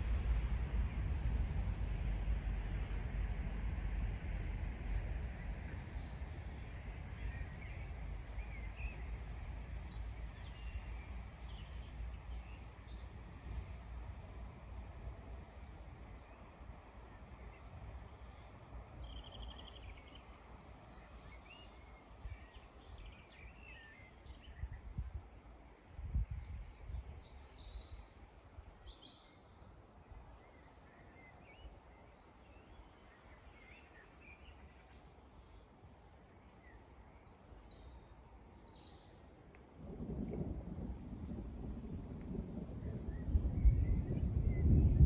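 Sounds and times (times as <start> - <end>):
faint low rumble: 0.0 - 45.0.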